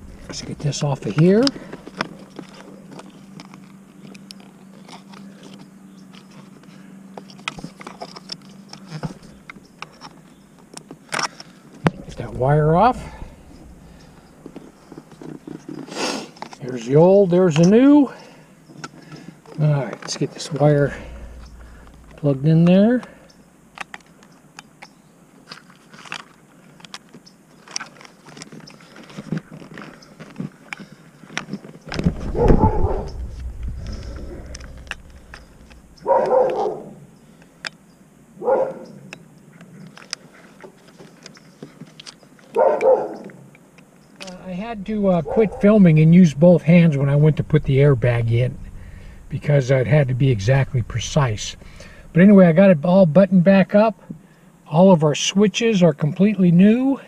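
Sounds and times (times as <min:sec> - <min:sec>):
faint steady hum: 0:00.0 - 0:42.6, 0:43.4 - 0:57.0.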